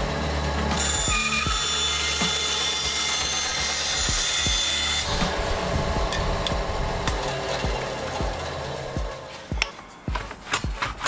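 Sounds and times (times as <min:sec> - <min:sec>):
bandsaw cutting wood: 0:00.0 - 0:09.3
saw motor hum: 0:00.0 - 0:09.3.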